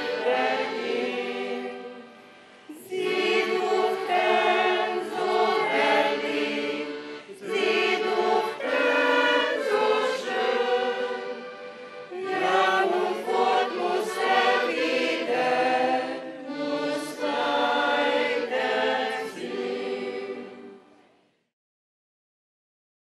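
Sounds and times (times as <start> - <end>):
choir singing: 0.0 - 21.1.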